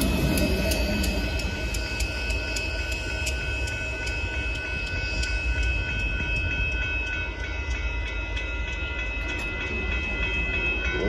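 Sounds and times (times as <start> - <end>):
crossing bell ringing: 0.0 - 11.0
train cars rumbling: 0.0 - 11.0.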